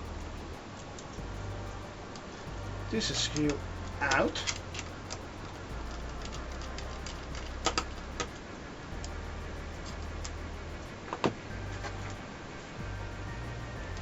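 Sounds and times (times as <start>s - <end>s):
small parts clicking and tapping: 0.0s - 12.2s.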